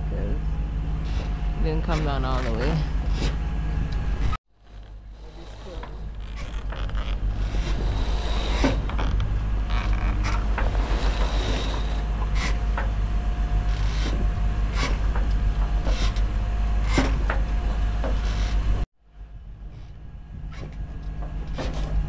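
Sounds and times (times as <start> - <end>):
steady low rumble: 0.0 - 22.0
sail gear scraping and knocking: 1.0 - 3.5, 4.1 - 13.0, 13.6 - 18.8, 19.7 - 22.0.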